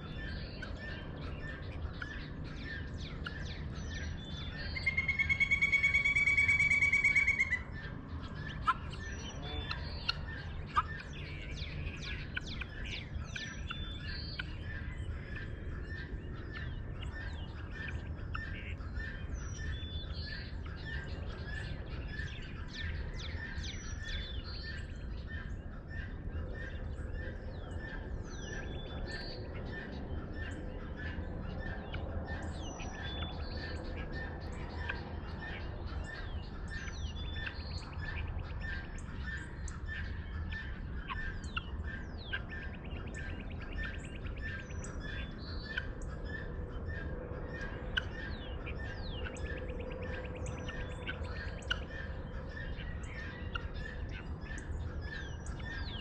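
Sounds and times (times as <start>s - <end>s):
birds chirping and whistling: 0.0s - 56.0s
steady low rumble: 0.0s - 56.0s.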